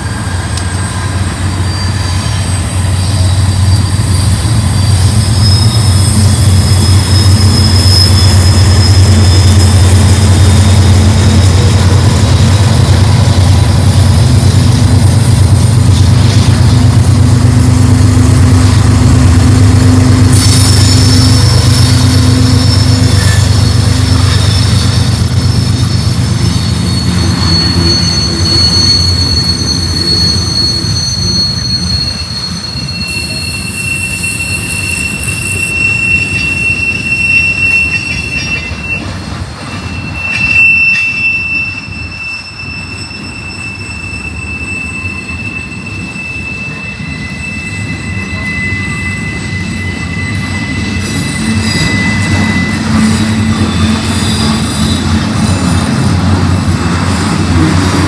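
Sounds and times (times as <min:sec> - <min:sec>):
train rumble: 0:00.0 - 0:58.0
train wheels squealing: 0:00.0 - 0:58.0.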